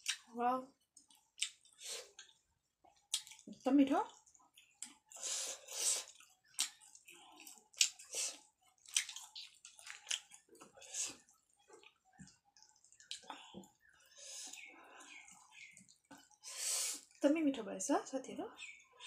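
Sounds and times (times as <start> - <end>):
wet chewing and mouth sounds: 0.0 - 17.2.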